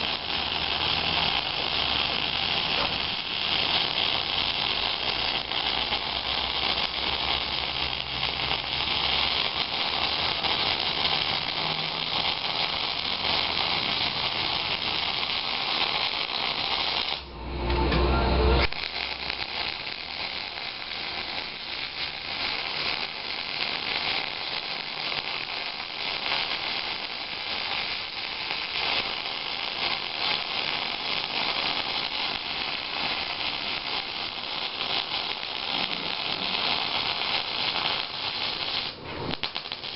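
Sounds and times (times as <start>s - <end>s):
welding arc hissing crackle: 0.0s - 17.6s, 18.4s - 39.9s.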